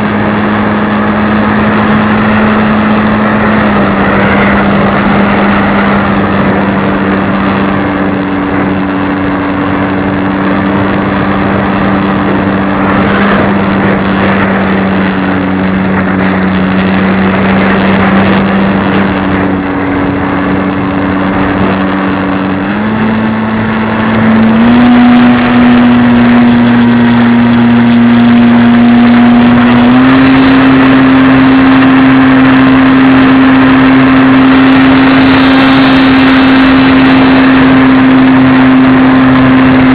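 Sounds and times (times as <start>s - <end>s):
model airplane motor humming: 0.0s - 39.9s
rushing noise: 0.0s - 39.9s.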